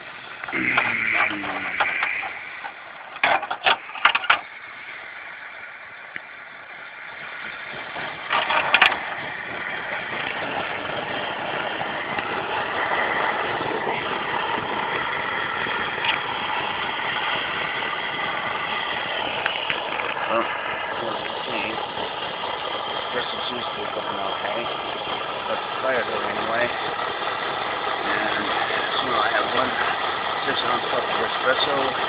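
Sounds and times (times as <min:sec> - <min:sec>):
camp stove burner hissing: 0:00.0 - 0:32.0.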